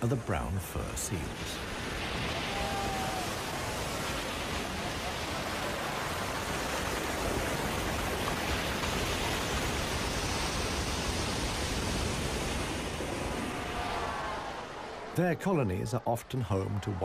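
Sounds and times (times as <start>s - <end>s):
ocean surf breaking over rocks: 0.1s - 17.0s.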